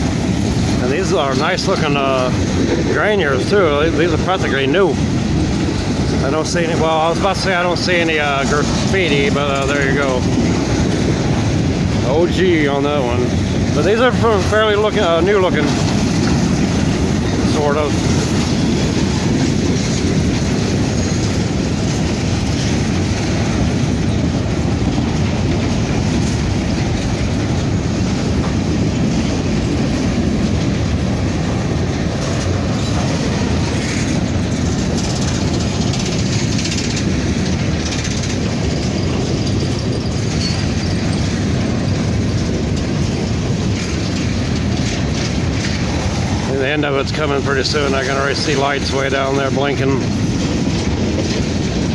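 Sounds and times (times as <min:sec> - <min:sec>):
train wheels rolling on rails: 0:00.0 - 0:51.9.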